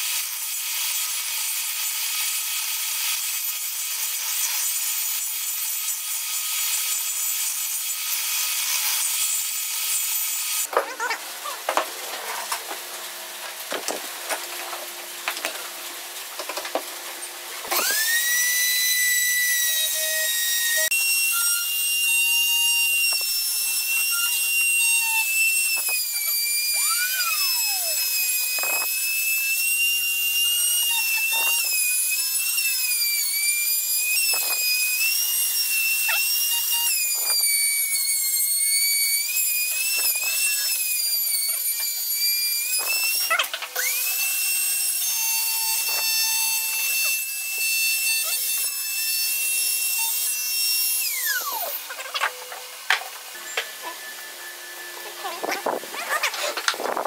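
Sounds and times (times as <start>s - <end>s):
router whining cutting wood: 0.0s - 15.8s, 16.4s - 57.0s.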